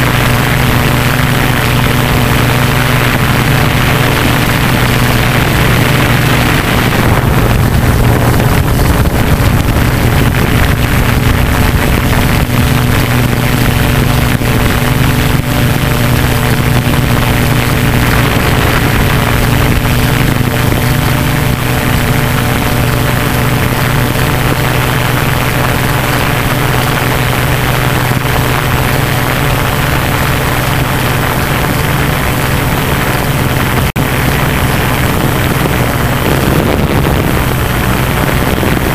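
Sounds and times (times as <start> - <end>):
drone propellers whirring: 0.0 - 38.9.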